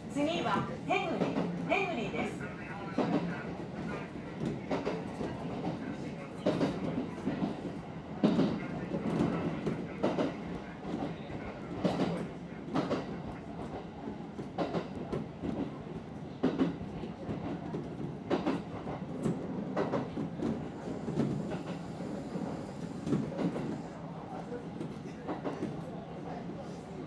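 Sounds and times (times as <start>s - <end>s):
train rolling rumble: 0.0s - 26.8s.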